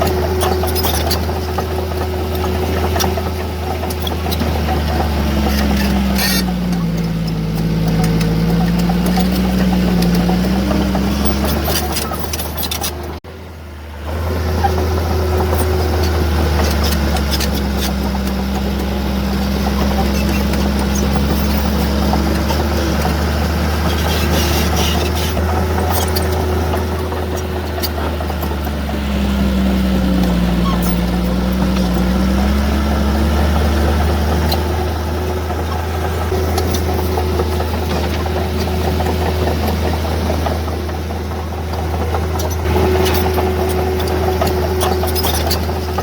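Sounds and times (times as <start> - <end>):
diesel machinery engine under load: 0.0 - 46.0.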